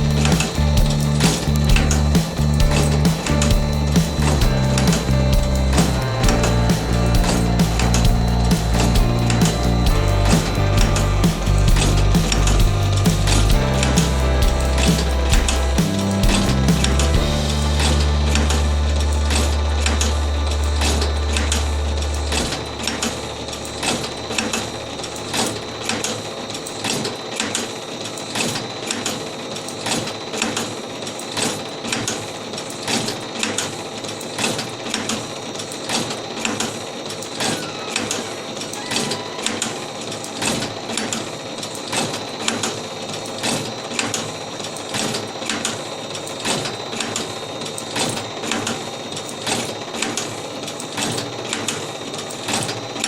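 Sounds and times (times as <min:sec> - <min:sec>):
machine motor whine: 0:00.0 - 0:53.0.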